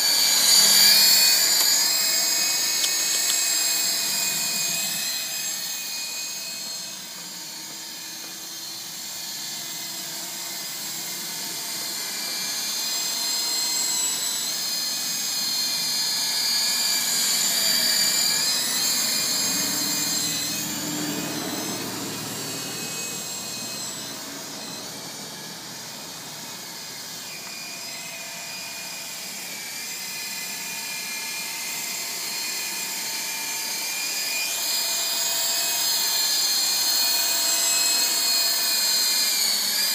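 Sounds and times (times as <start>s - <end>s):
toy helicopter rotor whine: 0.0s - 39.9s.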